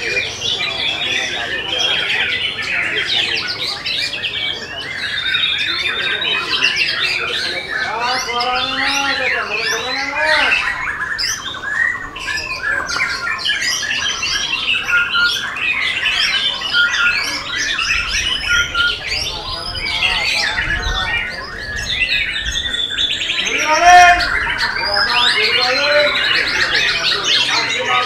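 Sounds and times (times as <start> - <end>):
songbird singing whistles and chatter: 0.0 - 28.0.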